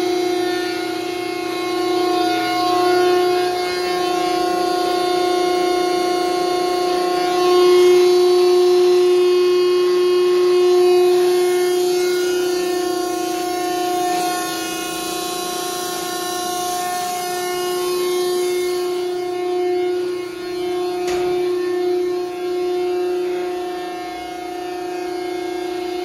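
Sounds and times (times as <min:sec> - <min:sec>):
hydraulic pump whine: 0:00.0 - 0:26.0.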